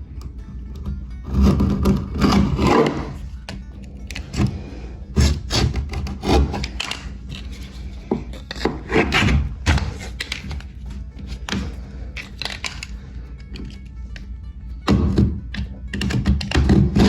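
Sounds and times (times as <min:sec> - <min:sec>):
steady low hum: 0:00.0 - 0:15.9
blade scraping silicone caulk: 0:00.7 - 0:13.9, 0:14.9 - 0:17.0.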